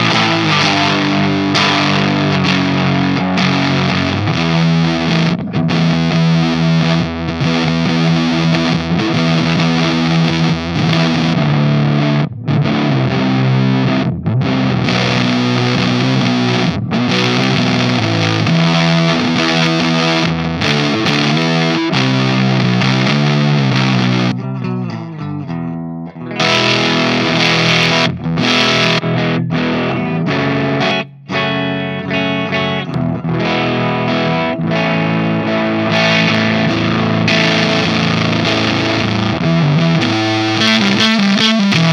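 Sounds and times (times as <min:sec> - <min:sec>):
distorted electric guitar riffing: 0:00.0 - 0:41.9.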